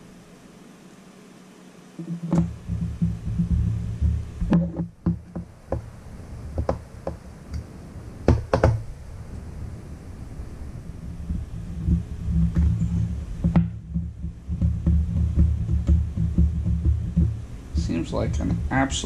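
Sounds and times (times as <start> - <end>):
low rumbling of turning: 2.0 - 19.0.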